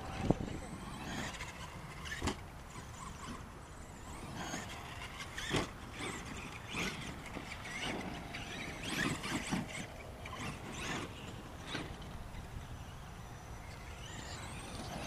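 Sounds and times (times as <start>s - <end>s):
electric motor whine: 0.0s - 15.0s
tyre and dirt noise: 0.0s - 15.0s.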